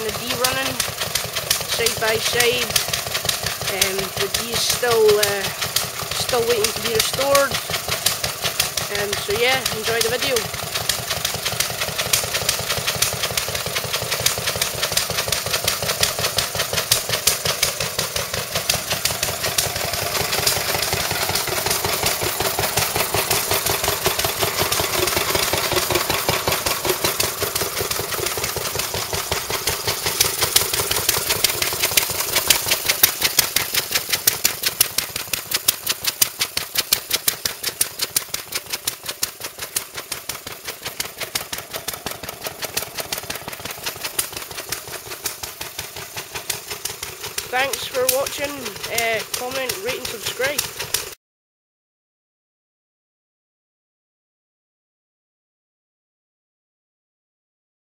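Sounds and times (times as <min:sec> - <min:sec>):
stationary engines running: 0:00.0 - 0:51.2.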